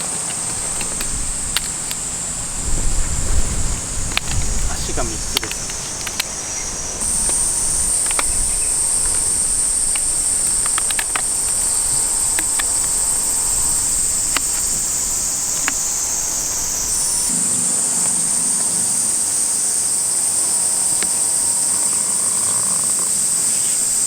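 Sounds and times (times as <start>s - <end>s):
insects shrilling: 0.0s - 24.0s.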